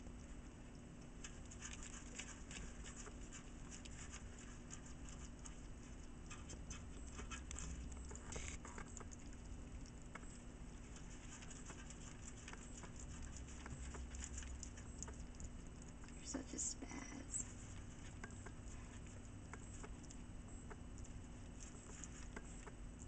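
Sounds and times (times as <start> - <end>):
faint steady hum: 0.0 - 23.0
hedgehog licking clicks: 0.2 - 16.3, 17.4 - 23.0.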